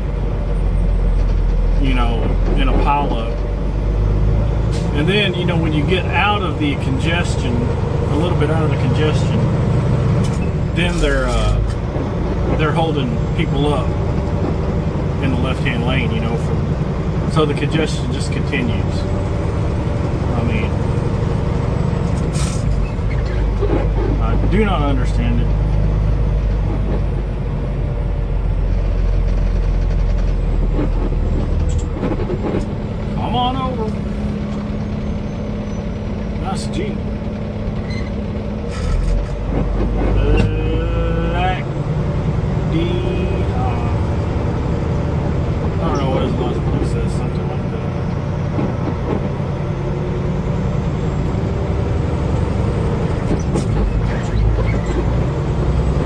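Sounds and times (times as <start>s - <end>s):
diesel engine drone: 0.0s - 56.0s
road noise: 0.0s - 56.0s.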